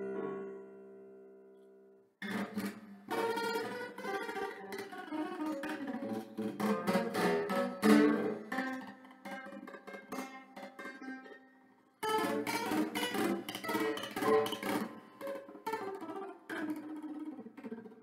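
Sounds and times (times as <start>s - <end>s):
classical guitar playing: 2.2s - 18.0s.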